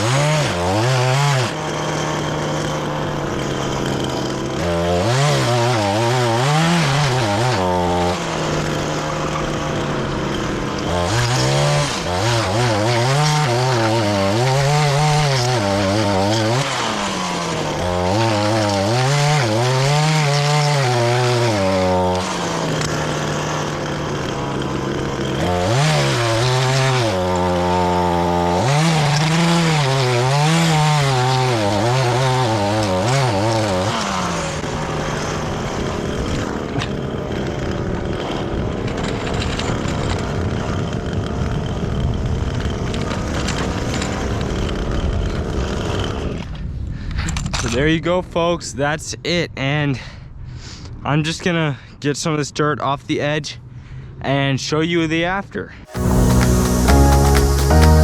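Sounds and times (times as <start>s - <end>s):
two-stroke edger engine running: 0.0s - 46.4s, 55.9s - 58.0s.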